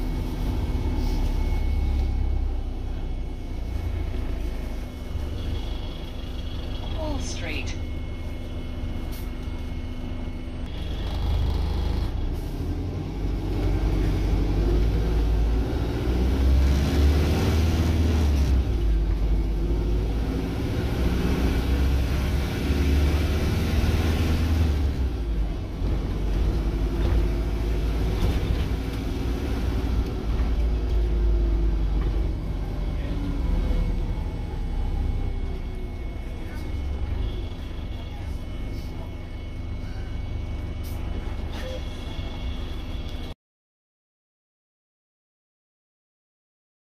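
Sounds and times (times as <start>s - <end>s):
bus engine rumble: 0.0s - 43.4s.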